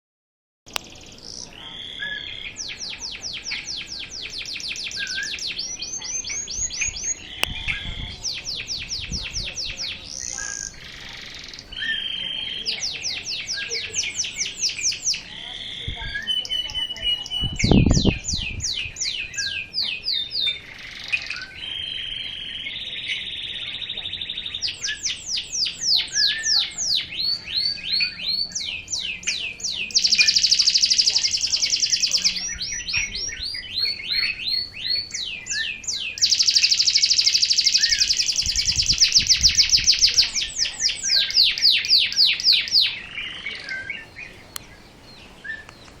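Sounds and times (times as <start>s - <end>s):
canary loud dense trills: 0.7s - 45.0s
canary singing: 0.7s - 46.0s.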